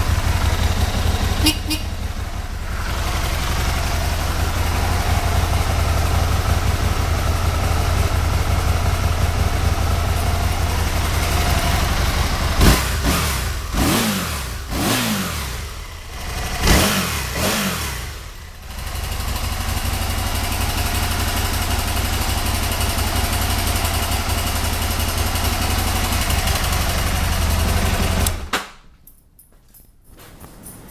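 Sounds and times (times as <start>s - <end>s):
motorcycle engine idling and revving: 0.0s - 28.5s.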